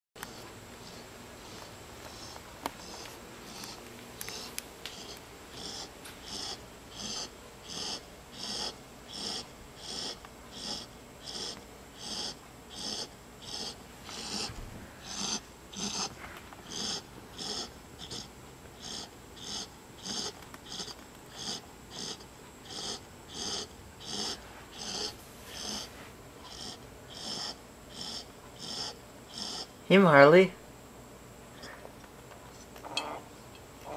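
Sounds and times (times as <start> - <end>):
puppy snoring: 0.2 - 30.3, 32.8 - 33.9.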